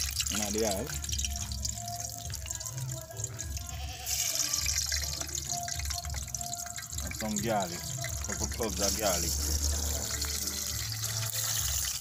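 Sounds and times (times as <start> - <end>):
oil sizzling in frying pan: 0.0 - 12.0.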